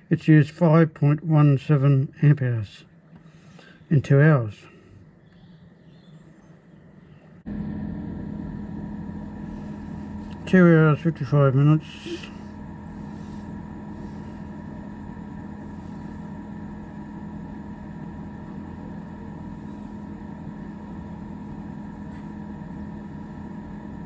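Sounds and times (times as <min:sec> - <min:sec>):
compressor fridge humming: 0:00.0 - 0:24.0.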